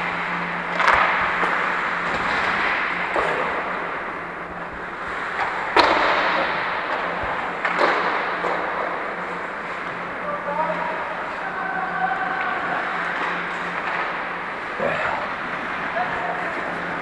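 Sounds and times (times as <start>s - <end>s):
skates scraping on ice: 0.0s - 17.0s.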